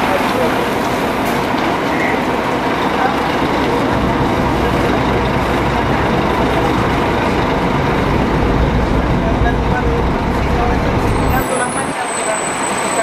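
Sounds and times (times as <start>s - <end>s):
coach diesel engine droning: 0.0s - 13.0s.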